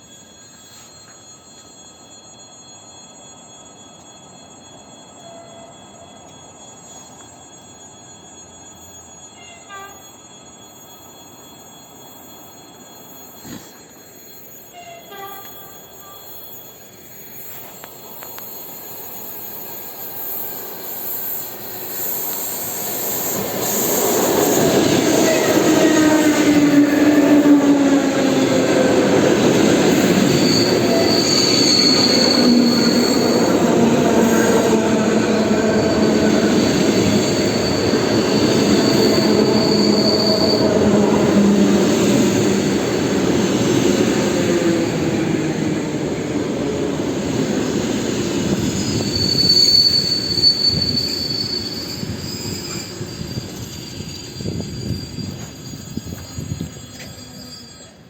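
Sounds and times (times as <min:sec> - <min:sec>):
brake squeal: 0:00.0 - 0:58.0
electric train rumble and whine: 0:00.0 - 0:58.0.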